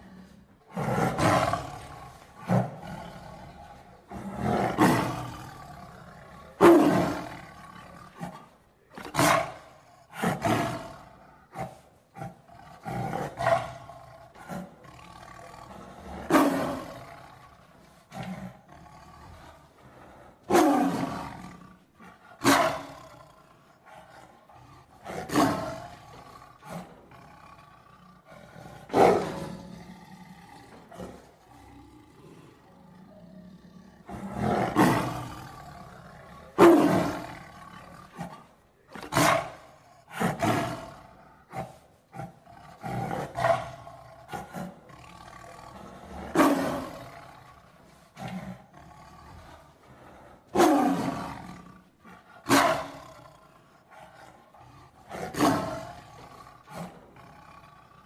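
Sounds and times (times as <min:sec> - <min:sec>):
tiger roaring: 0:00.0 - 0:58.0.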